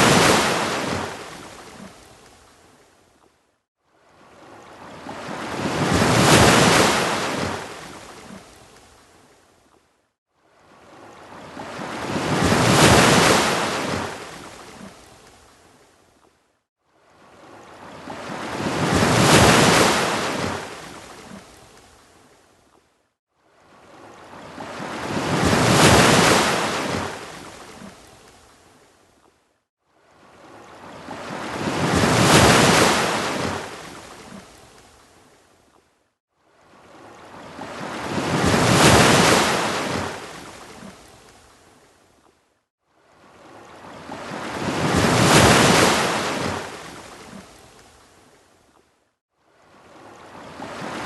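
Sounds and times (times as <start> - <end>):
ocean waves breaking on beach: 0.0 - 2.9, 3.8 - 9.4, 10.3 - 16.0, 16.8 - 22.5, 23.3 - 35.4, 36.4 - 41.9, 42.9 - 48.5, 49.4 - 51.0.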